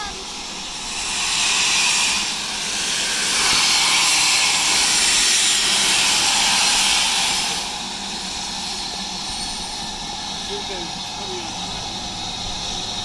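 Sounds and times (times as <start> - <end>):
loud steam hiss: 0.0 - 13.0.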